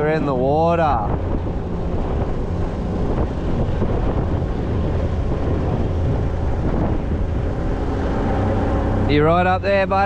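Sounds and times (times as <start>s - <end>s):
boat motor running: 0.0s - 10.0s
wind noise on microphone: 0.0s - 10.0s.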